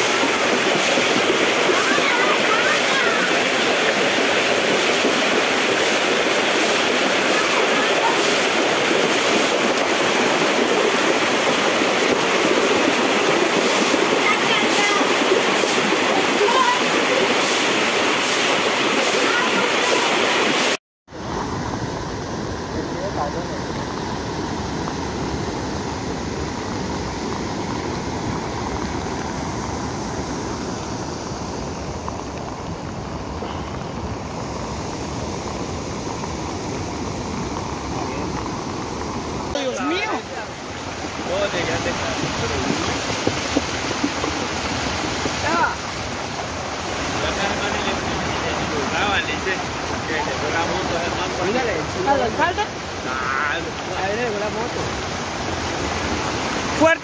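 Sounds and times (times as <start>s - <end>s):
heavy rain: 0.0s - 57.0s
running floodwater: 0.0s - 57.0s.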